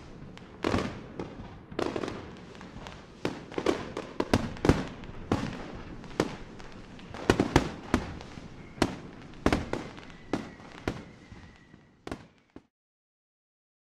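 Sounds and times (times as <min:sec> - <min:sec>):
fireworks bursting with sharp bangs: 0:00.0 - 0:12.7
fireworks crackle: 0:00.0 - 0:12.7.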